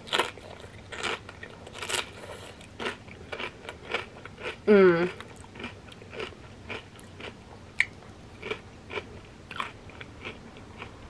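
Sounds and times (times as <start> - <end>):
crunchy food chewing: 0.0 - 11.0.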